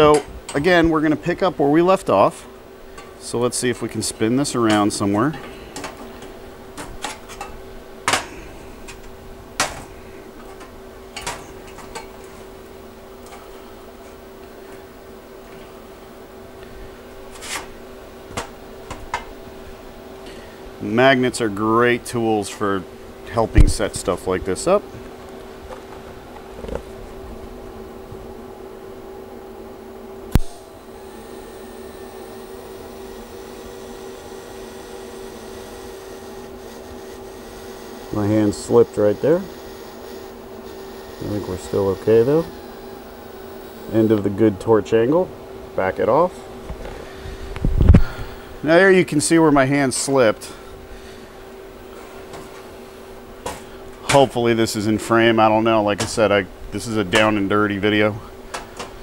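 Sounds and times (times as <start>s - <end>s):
steady hum: 0.0s - 59.0s
welding arc hiss and buzz: 0.0s - 59.0s.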